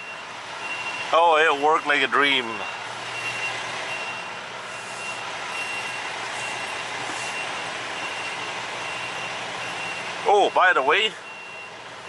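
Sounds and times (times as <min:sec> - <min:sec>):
backup alarm beeping: 0:00.0 - 0:11.8.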